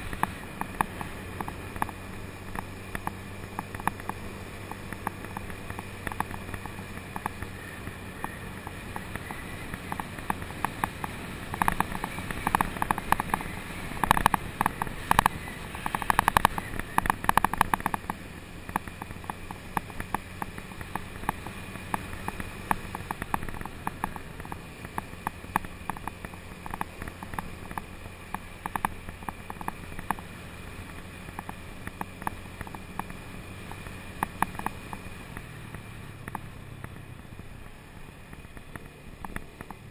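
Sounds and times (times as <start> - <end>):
small clicks and knocks: 0.0 - 7.6, 8.2 - 37.2, 38.2 - 39.9
scooter engine cruising: 0.0 - 39.9
wind and road noise: 0.0 - 39.9.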